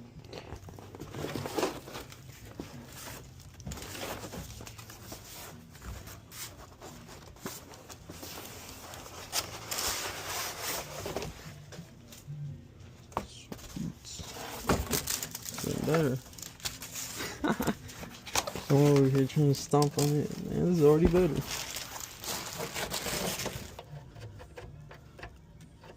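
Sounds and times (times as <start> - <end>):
cardboard rustling and scraping: 0.5 - 11.8, 13.2 - 17.2, 18.0 - 23.9.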